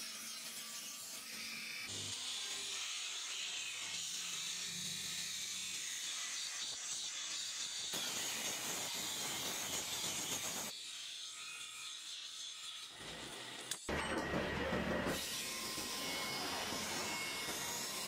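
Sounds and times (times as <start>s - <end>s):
power tool grinding steel: 0.0s - 18.0s.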